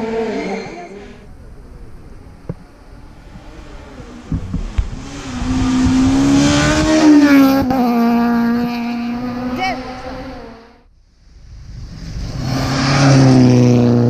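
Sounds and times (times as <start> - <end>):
rally car engine passing: 0.0 - 14.0.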